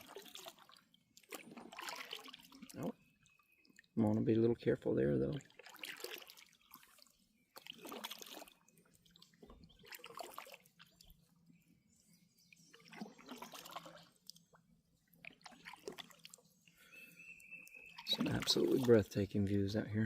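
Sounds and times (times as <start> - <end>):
water sloshing from paddle: 0.0 - 4.2, 5.1 - 19.6.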